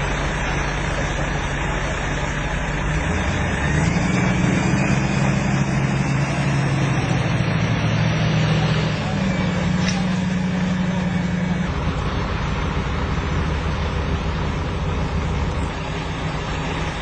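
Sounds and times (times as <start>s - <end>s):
steady rush of noise: 0.0s - 17.0s
vehicle engine running: 0.0s - 17.0s.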